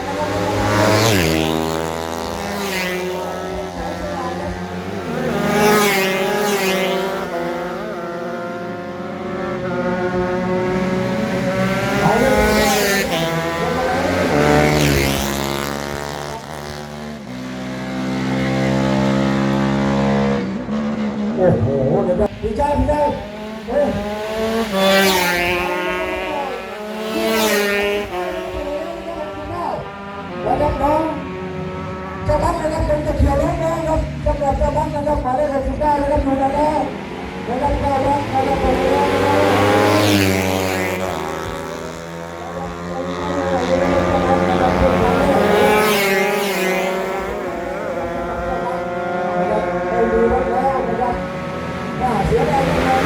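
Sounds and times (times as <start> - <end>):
motorcycle pass-bys: 0.0 - 53.0
racing motorcycle engines revving: 0.0 - 53.0.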